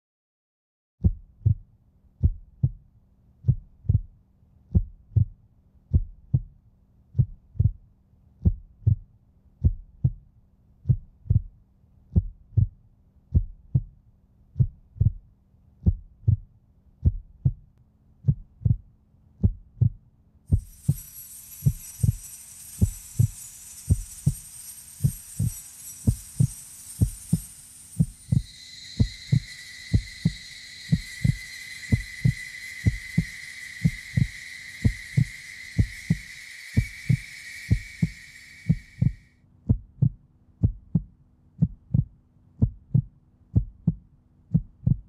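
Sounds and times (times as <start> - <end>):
heartbeat double thumps: 1.0 - 6.6, 7.2 - 21.0, 26.1 - 36.2, 36.8 - 45.0.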